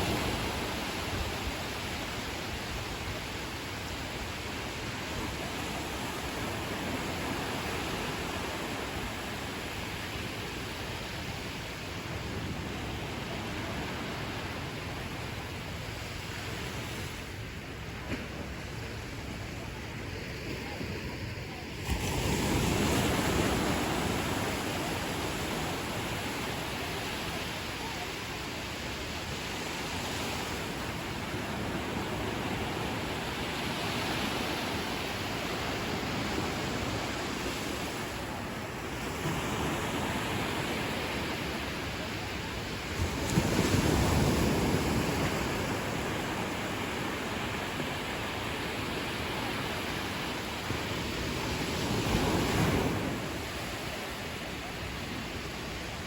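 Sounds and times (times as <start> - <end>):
ocean surf washing onto beach: 0.0 - 56.0
waves breaking: 0.0 - 56.0.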